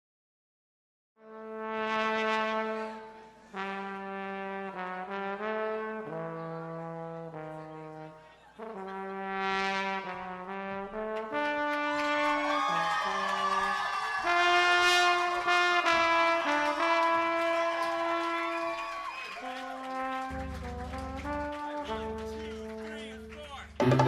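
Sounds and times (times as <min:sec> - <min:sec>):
solo trombone melody: 0:01.2 - 0:13.6, 0:14.2 - 0:18.8, 0:19.4 - 0:24.0
band instruments playing: 0:01.5 - 0:13.5, 0:14.2 - 0:24.0.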